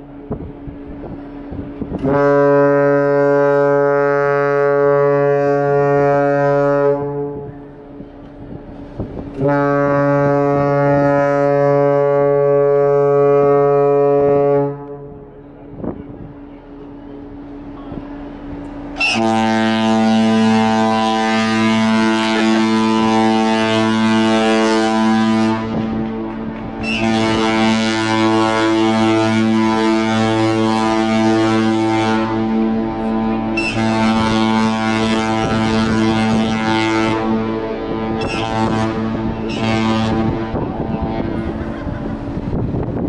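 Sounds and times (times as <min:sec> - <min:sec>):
ship's horn long deep tone: 0:00.0 - 0:43.0.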